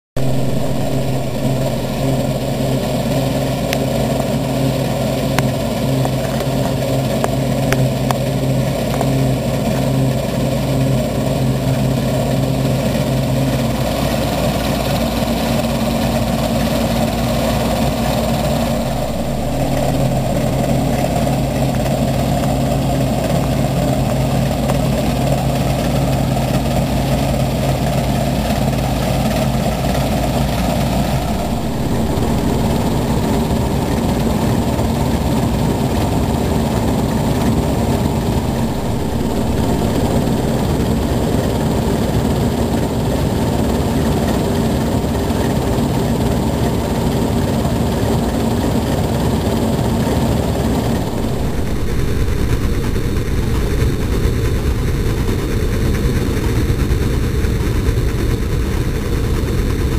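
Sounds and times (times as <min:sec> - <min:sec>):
combine harvester heavy hum: 0:00.2 - 0:59.9.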